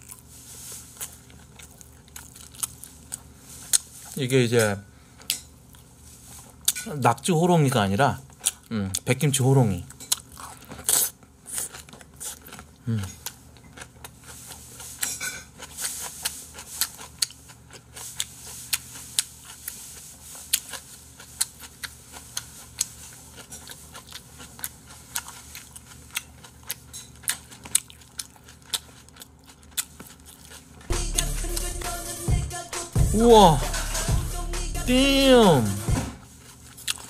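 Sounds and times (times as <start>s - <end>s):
person chewing: 0.0s - 4.2s, 5.2s - 7.0s, 8.2s - 9.1s, 9.9s - 33.2s, 36.3s - 37.0s.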